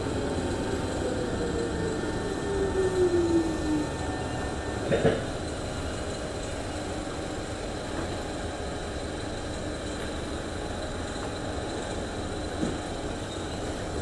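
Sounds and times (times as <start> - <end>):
train rumble and hum: 0.0 - 14.0.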